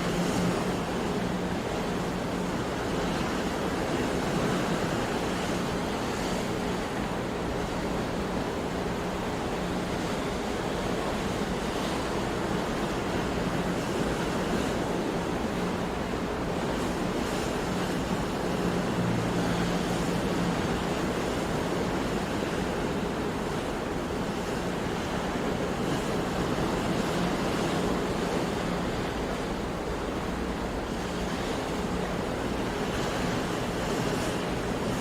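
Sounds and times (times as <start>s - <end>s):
sea waves washing: 0.0s - 35.0s.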